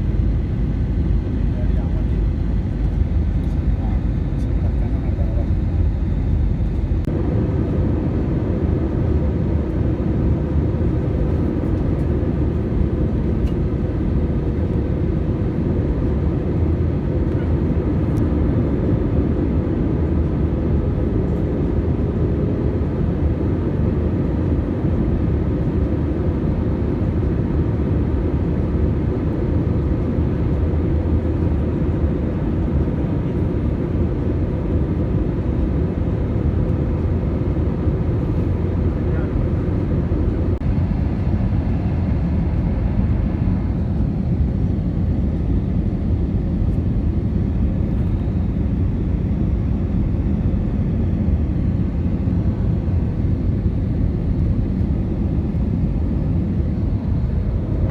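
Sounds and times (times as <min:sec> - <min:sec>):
airplane cabin engine rush: 0:00.0 - 0:57.9.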